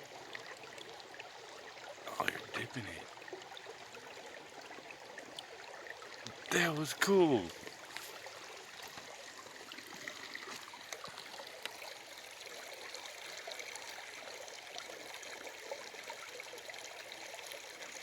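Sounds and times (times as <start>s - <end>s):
stream water trickling: 0.0s - 18.0s.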